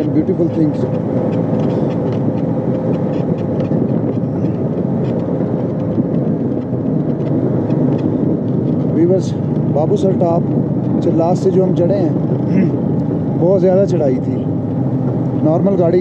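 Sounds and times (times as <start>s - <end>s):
road noise: 0.0s - 16.0s
small rattles and clicks: 0.0s - 16.0s
van engine running: 0.0s - 16.0s.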